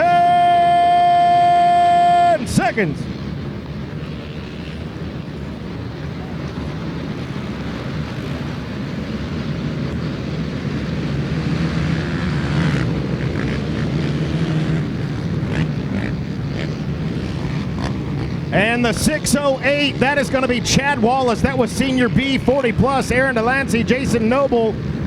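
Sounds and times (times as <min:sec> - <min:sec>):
many atv engines revving: 0:00.0 - 0:25.0.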